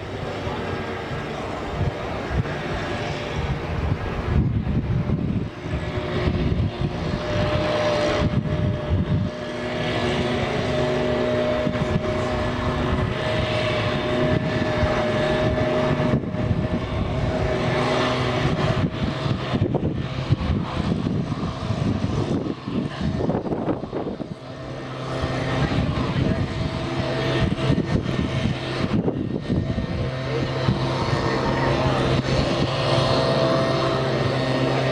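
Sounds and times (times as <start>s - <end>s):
steady whining tone: 0.0s - 34.9s
truck engines droning: 0.0s - 34.9s.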